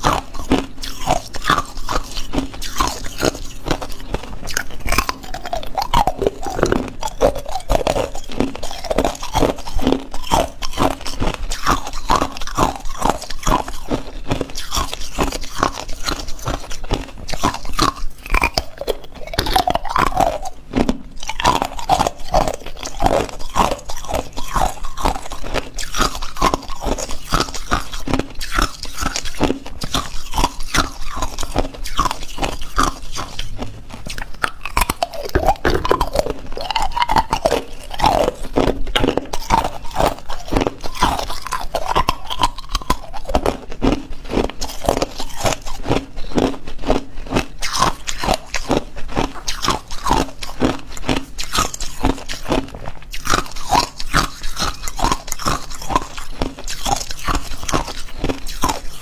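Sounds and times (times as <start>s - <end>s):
ice cubes crunching: 0.0s - 59.0s.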